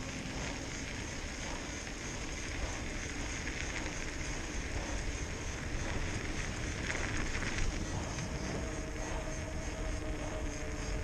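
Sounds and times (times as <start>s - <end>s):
bike tyres rolling on snowy path: 0.0s - 11.0s.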